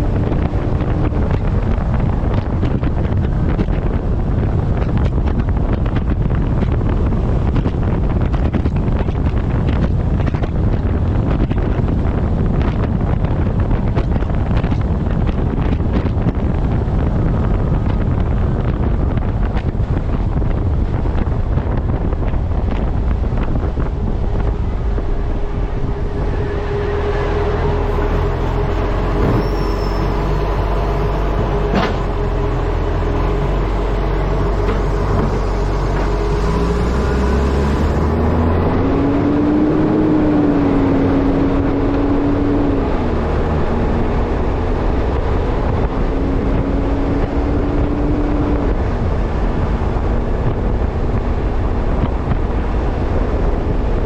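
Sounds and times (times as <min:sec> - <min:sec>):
truck engine running: 0:00.0 - 0:54.0
wind buffeting camera: 0:00.0 - 0:54.0.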